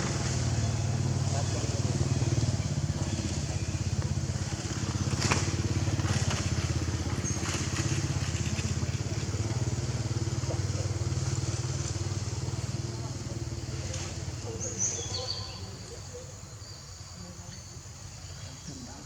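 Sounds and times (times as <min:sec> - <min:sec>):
small engine running: 0:00.0 - 0:16.4.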